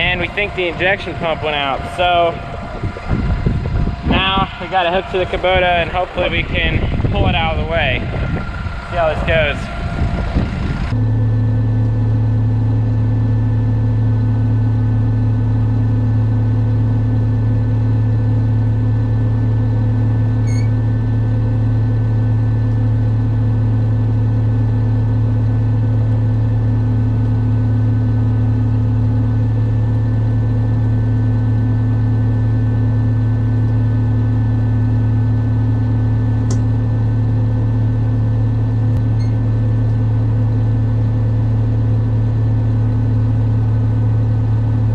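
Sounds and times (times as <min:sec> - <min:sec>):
diesel tractor engine drone: 0:00.0 - 0:44.9.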